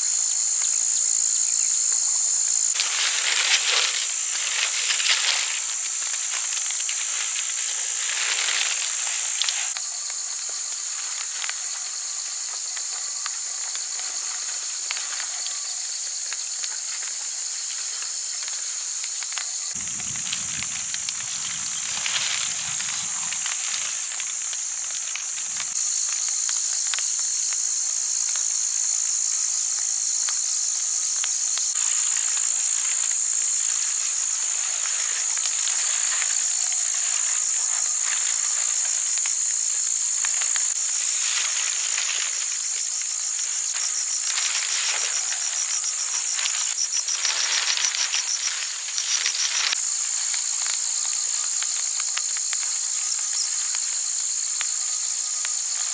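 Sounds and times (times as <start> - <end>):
fast pulsing insect trill: 0.0 - 18.9, 19.5 - 55.9
insects chirring: 0.0 - 55.9.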